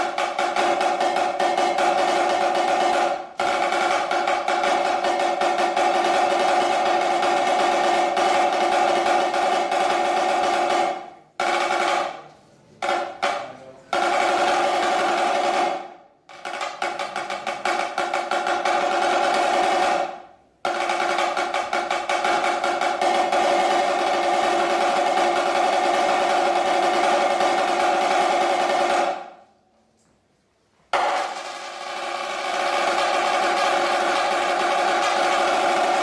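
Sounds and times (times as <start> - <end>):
snare drum single strokes: 0.0 - 29.4, 30.9 - 36.0
snare drum rolls: 0.0 - 29.5, 30.9 - 36.0.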